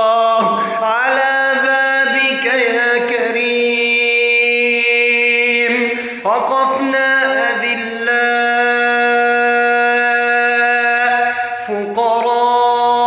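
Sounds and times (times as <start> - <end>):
man singing a devotional chant: 0.0 - 13.0.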